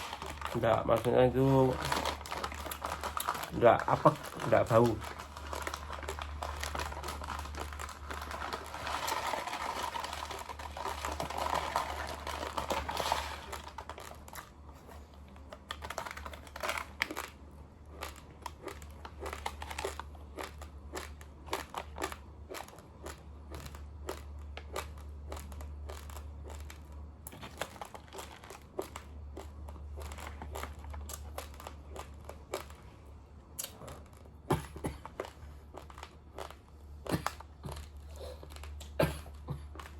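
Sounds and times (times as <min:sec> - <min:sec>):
crunching of chewed rice: 0:00.0 - 0:39.9
steady low hum: 0:00.0 - 0:39.9.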